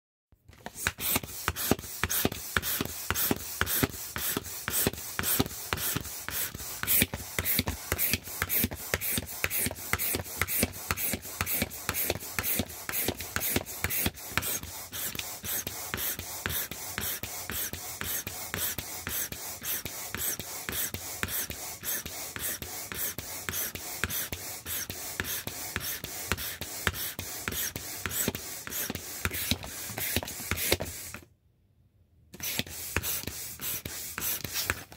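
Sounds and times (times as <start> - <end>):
air pump puffing: 0.6 - 31.3, 32.4 - 34.9.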